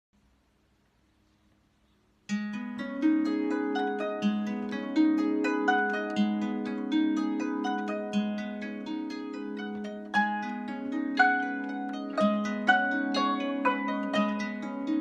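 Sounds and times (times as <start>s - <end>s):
harp plucked strings: 2.3s - 15.0s.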